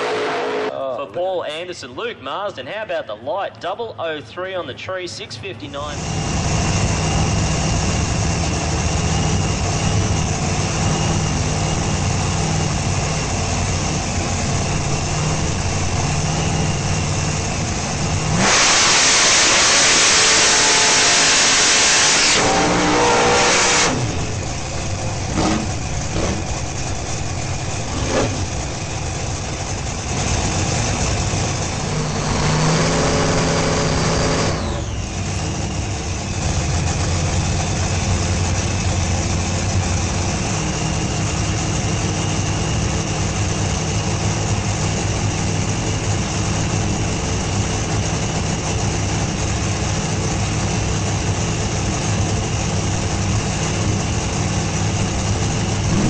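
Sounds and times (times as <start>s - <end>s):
race car engine idling: 3.9s - 56.0s.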